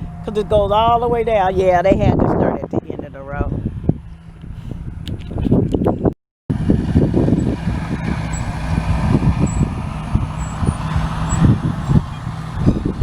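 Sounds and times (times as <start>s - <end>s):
low rumbling and knocks: 0.0s - 13.0s
vehicle engine humming: 0.0s - 13.0s.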